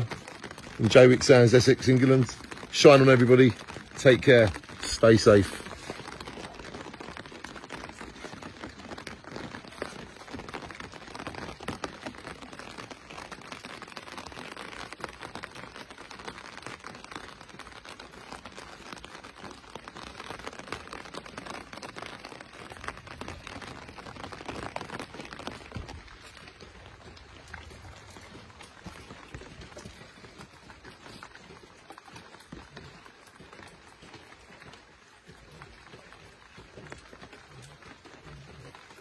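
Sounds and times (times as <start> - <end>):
rain on a plastic umbrella: 0.0 - 39.0.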